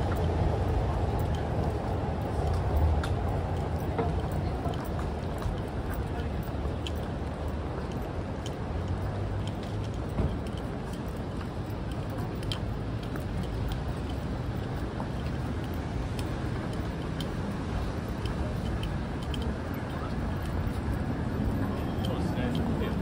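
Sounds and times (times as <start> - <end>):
footsteps on pavement: 0.0 - 23.0
traffic hum: 0.0 - 23.0.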